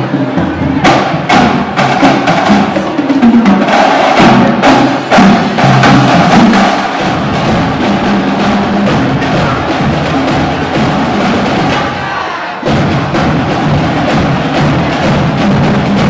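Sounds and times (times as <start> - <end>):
loud music with percussion beat: 0.0 - 16.0.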